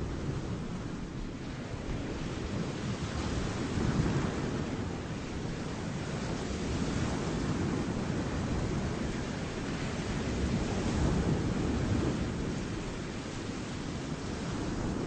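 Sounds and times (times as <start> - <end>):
distant ocean surf: 0.0 - 15.0
wind buffeting microphone: 0.0 - 15.0.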